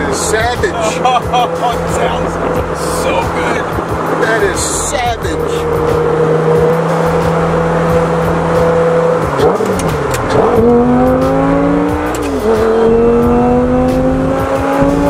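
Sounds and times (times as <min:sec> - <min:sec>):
car engine revving in cabin: 0:00.0 - 0:15.0.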